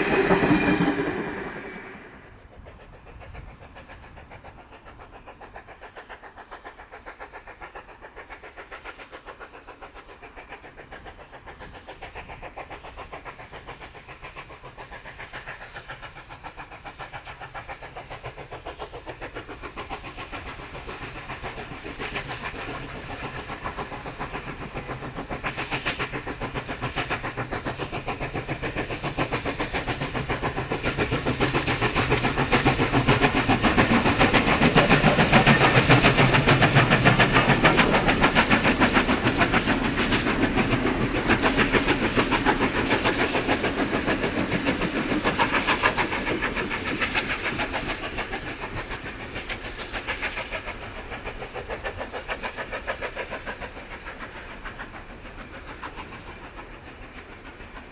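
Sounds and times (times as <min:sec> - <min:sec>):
steam locomotive exhaust chuffing: 0:00.0 - 0:57.9.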